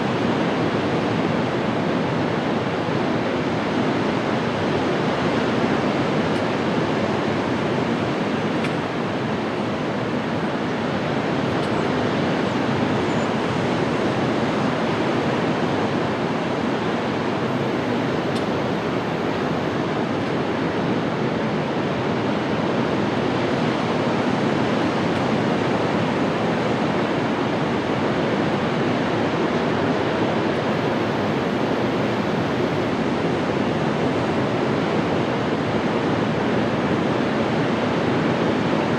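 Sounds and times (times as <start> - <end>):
wind and water rushing: 0.0 - 38.9.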